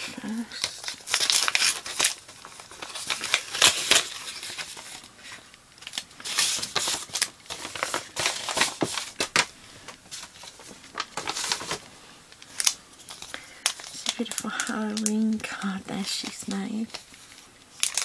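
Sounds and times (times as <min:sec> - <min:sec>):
paper rustling and crinkling: 0:00.0 - 0:18.0.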